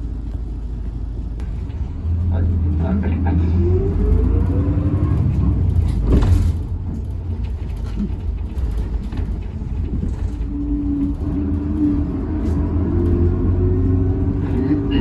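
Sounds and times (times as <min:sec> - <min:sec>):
bus cabin low rumble: 0:00.0 - 0:15.0
bus motor whine: 0:00.0 - 0:15.0.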